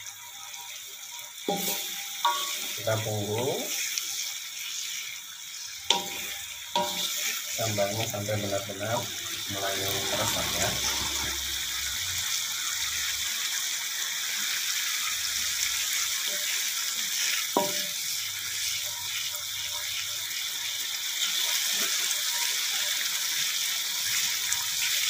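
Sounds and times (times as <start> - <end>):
paste sizzling in hot oil: 0.0 - 25.0.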